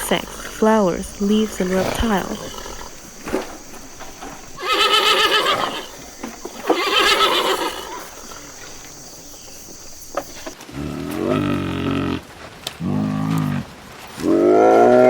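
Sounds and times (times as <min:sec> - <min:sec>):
animal calling: 0:00.0 - 0:12.2.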